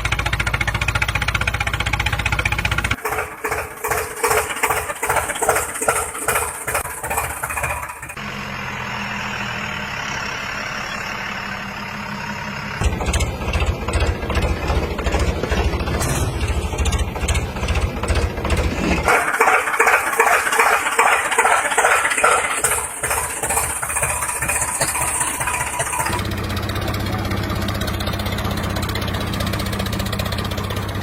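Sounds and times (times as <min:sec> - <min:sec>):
tractor engines running: 0:00.0 - 0:31.0.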